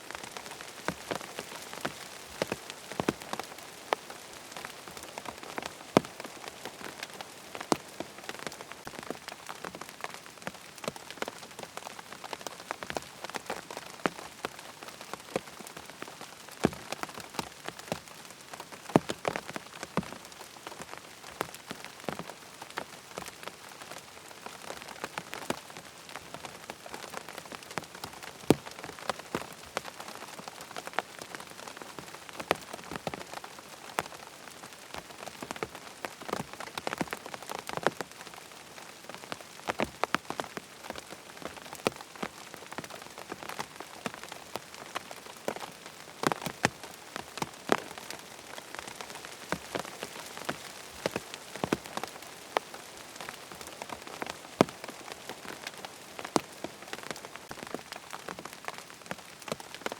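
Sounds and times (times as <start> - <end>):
rain pattering on tent fabric: 0.0 - 59.9.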